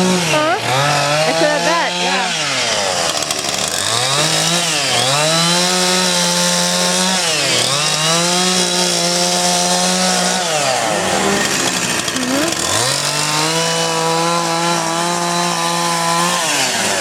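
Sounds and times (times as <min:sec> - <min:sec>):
chainsaw running at high speed: 0:00.0 - 0:17.0.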